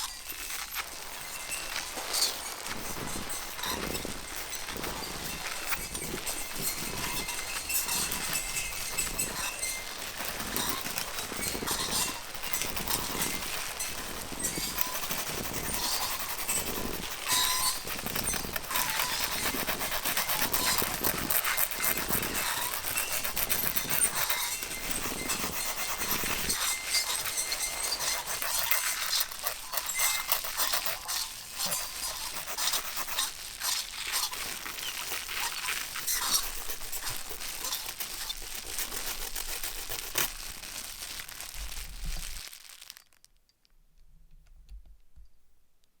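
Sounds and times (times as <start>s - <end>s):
dense crinkling and crackling: 0.0s - 45.0s.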